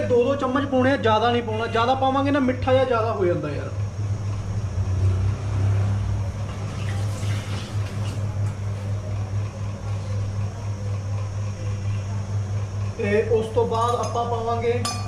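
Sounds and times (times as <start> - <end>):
table fan motor hum: 0.0 - 15.0.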